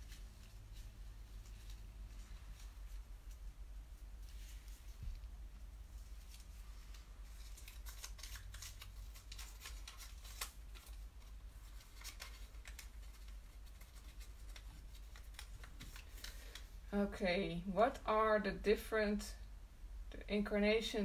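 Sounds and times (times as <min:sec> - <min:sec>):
paper rustling and crinkling: 0:00.0 - 0:16.8.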